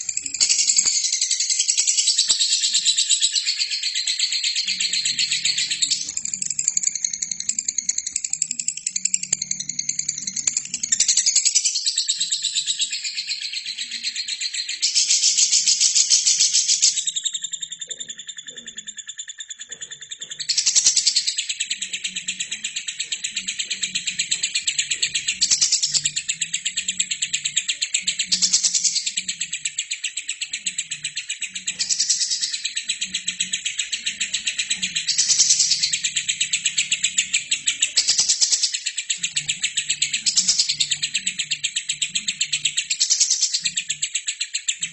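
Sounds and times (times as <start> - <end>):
bird chattering chirps: 0.0 - 44.9.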